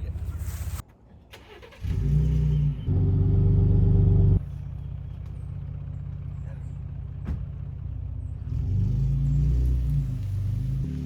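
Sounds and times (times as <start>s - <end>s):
vehicle engine droning: 1.4s - 11.0s.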